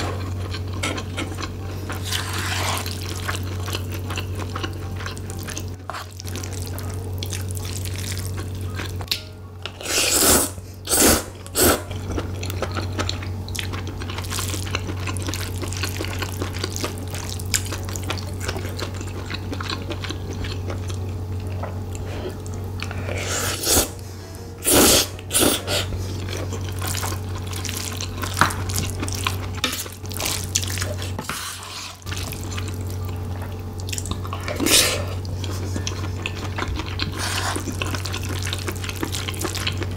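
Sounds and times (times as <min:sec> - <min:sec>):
wet chewing and mouth noises: 0:00.0 - 0:09.1, 0:11.4 - 0:23.9, 0:24.6 - 0:39.9
steady low hum: 0:00.0 - 0:39.9.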